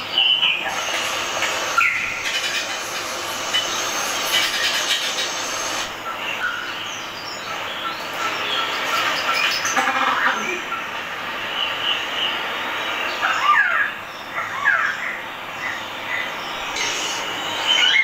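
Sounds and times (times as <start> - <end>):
lyrebird singing: 0.0 - 0.9, 1.7 - 18.0.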